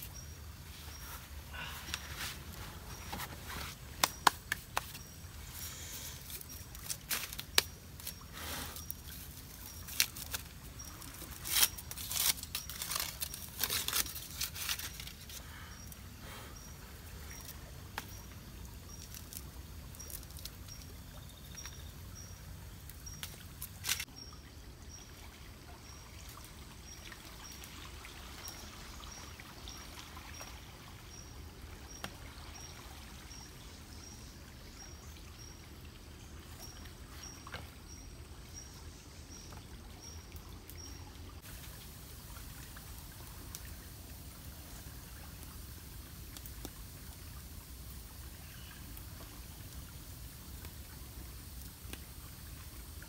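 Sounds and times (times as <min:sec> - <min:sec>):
water trickling: 0:00.0 - 0:53.0.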